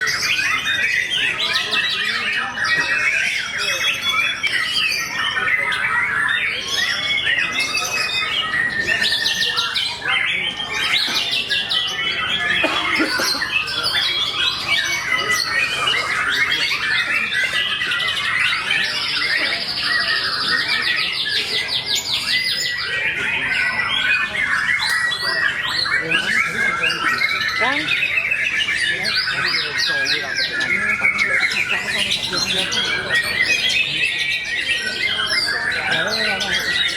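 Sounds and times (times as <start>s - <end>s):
other songbirds singing: 0.0s - 36.9s
songbird singing: 0.0s - 36.9s.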